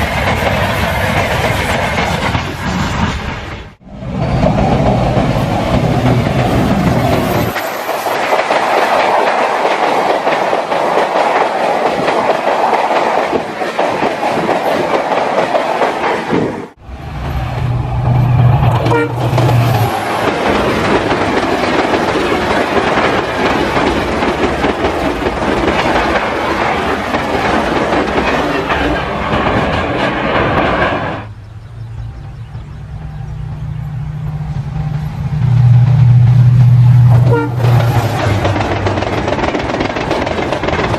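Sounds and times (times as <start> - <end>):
train wheels rattling over rails: 0.0 - 32.2, 33.9 - 40.9.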